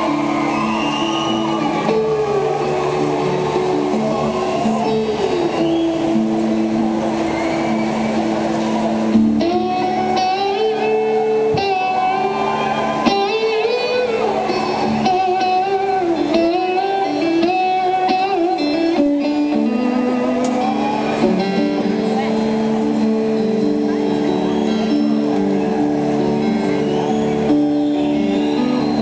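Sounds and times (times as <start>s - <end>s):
electric guitar sliding melody: 0.0s - 29.0s.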